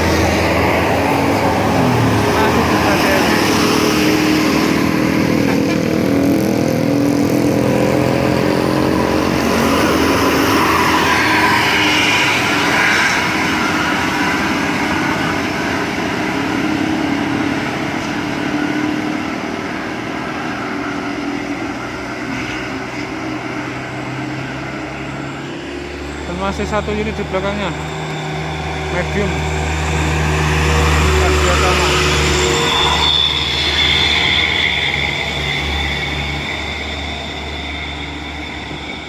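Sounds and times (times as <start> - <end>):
bus diesel engine climbing: 0.0 - 39.0.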